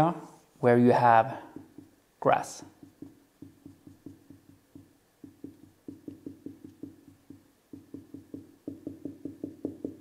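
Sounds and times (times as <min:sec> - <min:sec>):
marker tapping on whiteboard: 0:01.4 - 0:02.0, 0:02.6 - 0:10.0.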